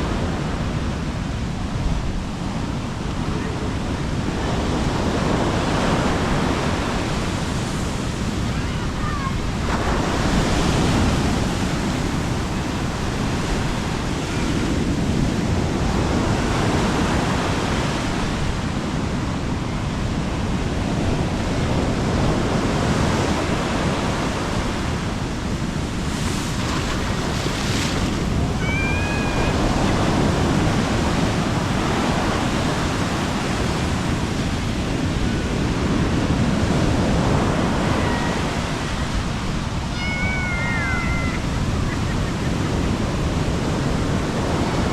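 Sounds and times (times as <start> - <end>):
sea waves breaking: 0.0 - 18.8, 22.6 - 44.9.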